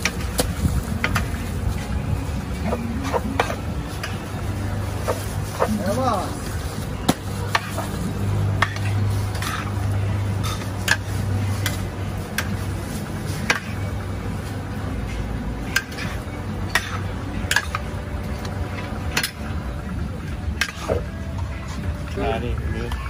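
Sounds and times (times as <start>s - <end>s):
metal utensils clanking on cookware: 0.0s - 21.8s.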